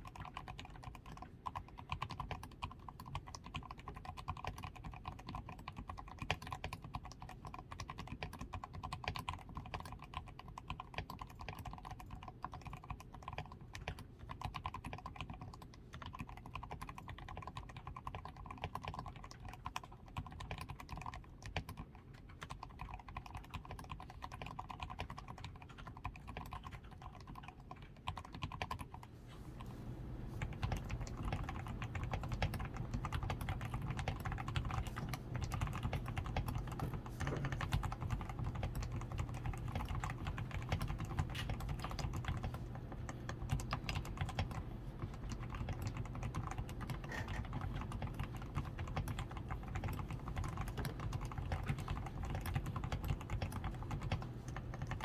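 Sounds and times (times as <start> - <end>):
fast typing on mechanical keyboard: 0.0 - 29.2, 30.0 - 55.0.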